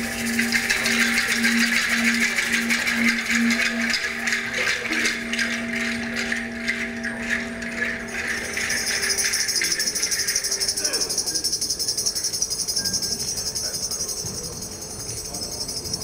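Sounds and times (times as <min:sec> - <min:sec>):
steady low tone: 0:00.0 - 0:15.8
rattle shaken fast: 0:00.0 - 0:16.0.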